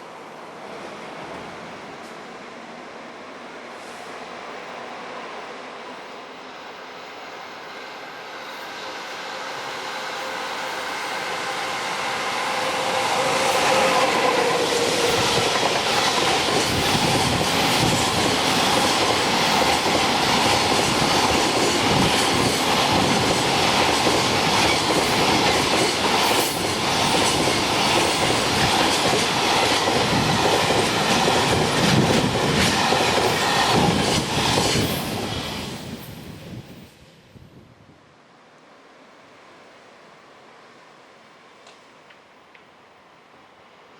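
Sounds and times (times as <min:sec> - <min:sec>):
freight train passing: 0:00.0 - 0:43.9.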